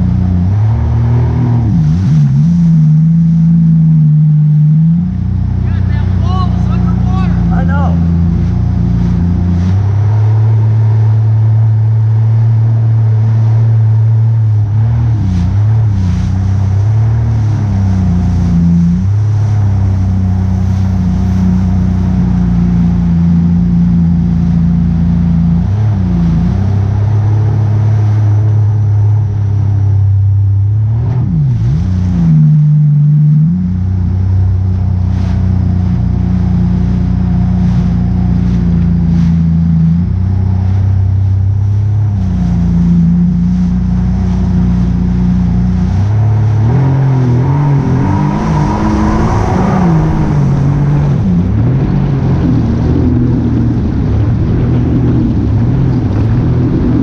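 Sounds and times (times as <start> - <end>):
engine running with throttle changes: 0.0 - 57.0.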